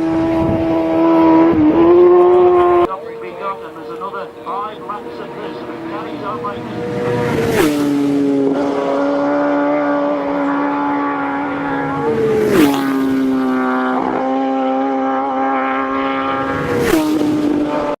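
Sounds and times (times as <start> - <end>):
racing motorcycles passing: 0.0 - 18.0.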